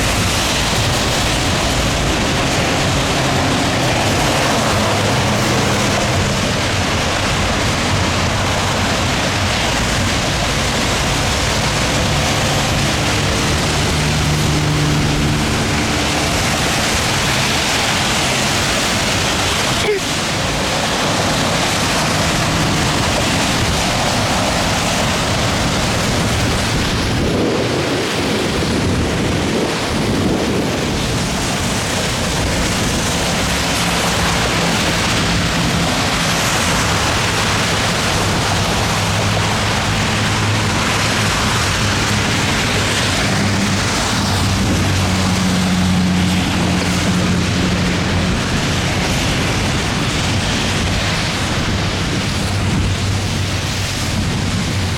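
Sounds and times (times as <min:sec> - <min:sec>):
gusty wind: 0:00.0 - 0:54.9
heavy rain pouring: 0:00.0 - 0:54.9.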